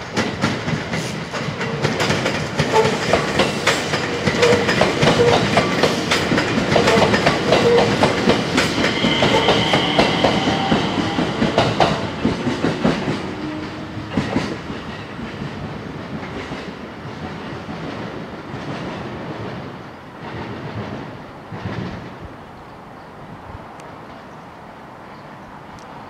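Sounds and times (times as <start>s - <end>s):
train wheels clacking on rails: 0.0s - 22.3s.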